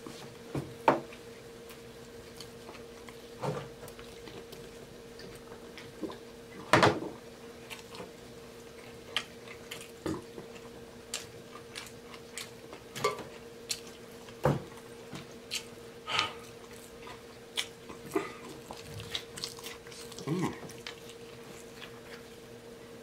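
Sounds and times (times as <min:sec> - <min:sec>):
faint steady hum: 0:00.0 - 0:23.0
man chewing: 0:01.0 - 0:06.7, 0:07.5 - 0:23.0.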